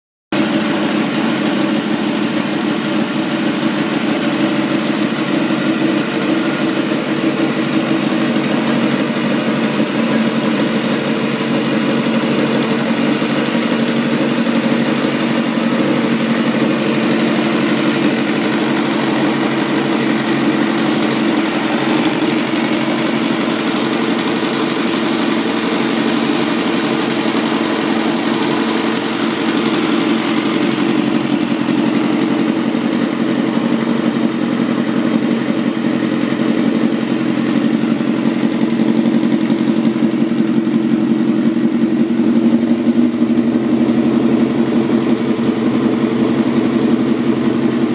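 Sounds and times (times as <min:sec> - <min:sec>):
motorcycle engine idling: 0:00.4 - 0:47.9.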